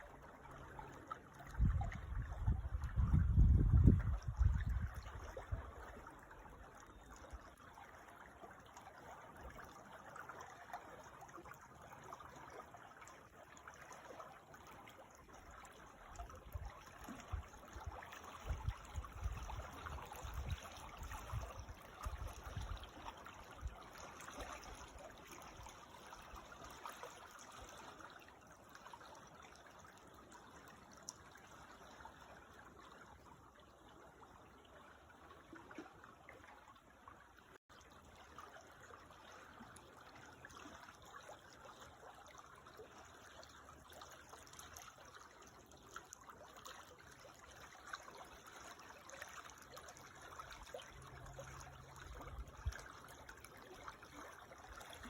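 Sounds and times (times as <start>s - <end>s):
creek flowing and trickling: 0.0s - 55.0s.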